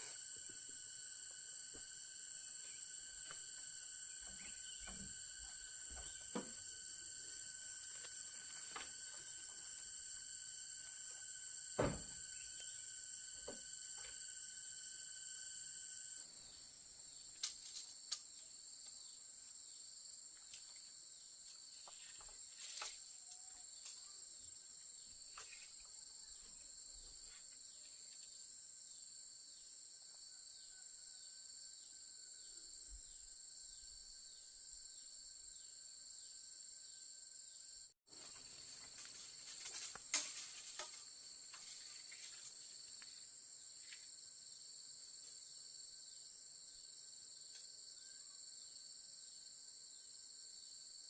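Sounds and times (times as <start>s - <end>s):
pulsing insect call: 0.0s - 44.8s
high-pitched insect chorus: 0.0s - 51.0s.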